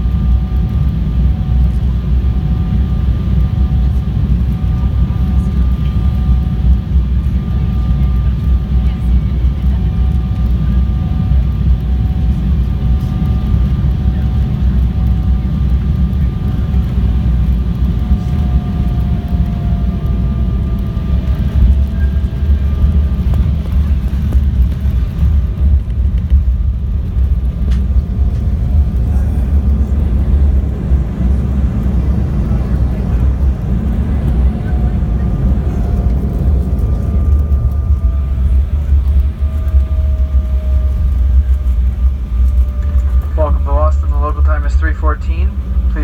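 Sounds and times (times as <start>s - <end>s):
airliner cabin rumble: 0.0s - 46.0s
faint jet engine tones: 0.0s - 46.0s.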